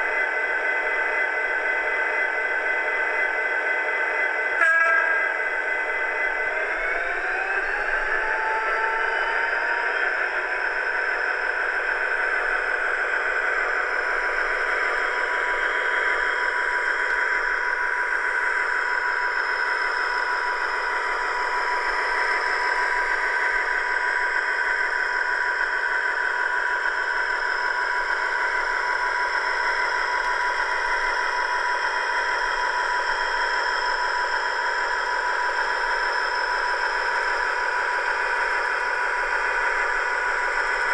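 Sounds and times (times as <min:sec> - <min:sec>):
model diesel locomotive engine sound: 0:00.0 - 0:40.9.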